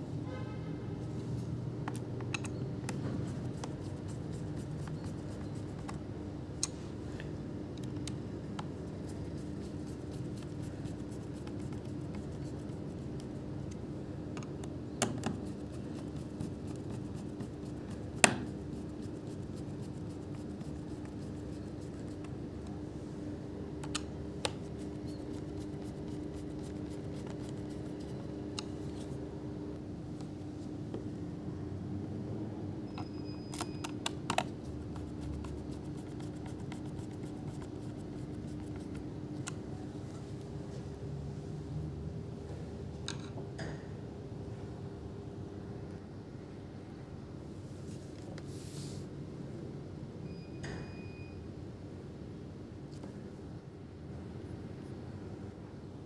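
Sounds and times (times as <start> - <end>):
steady low hum: 0.0 - 50.3.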